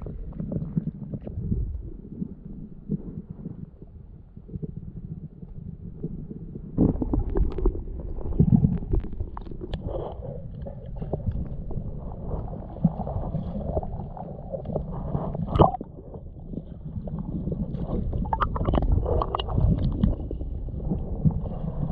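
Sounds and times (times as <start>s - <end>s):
muffled underwater rumble and gurgling: 0.0s - 21.9s.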